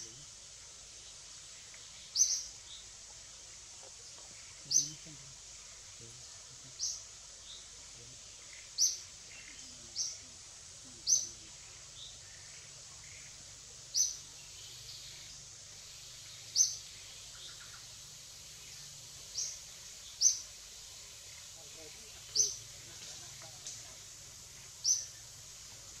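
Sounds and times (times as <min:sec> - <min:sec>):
forest background hiss: 0:00.0 - 0:26.0
small bird chirping: 0:01.0 - 0:26.0.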